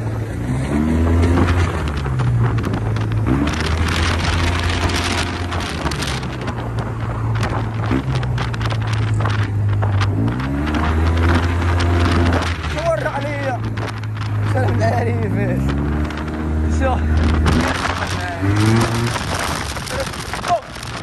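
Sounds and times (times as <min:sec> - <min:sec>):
scooter engine running: 0:00.0 - 0:21.0
wind noise on microphone: 0:00.0 - 0:21.0.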